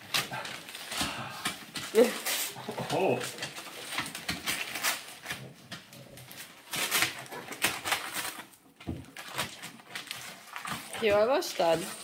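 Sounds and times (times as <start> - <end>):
paper crinkling and ripping: 0.0 - 12.0.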